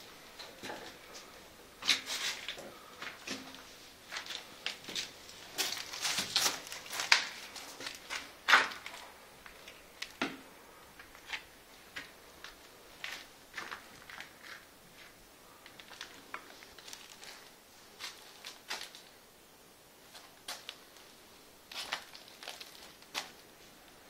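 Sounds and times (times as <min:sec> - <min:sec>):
footsteps crunching over rubble: 0:00.4 - 0:19.2, 0:21.7 - 0:23.7.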